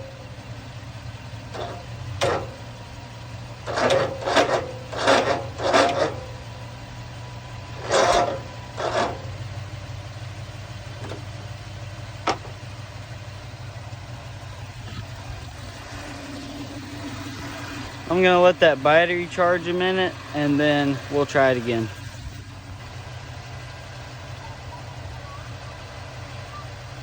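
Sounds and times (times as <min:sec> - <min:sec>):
steady low hum: 0:00.0 - 0:24.3.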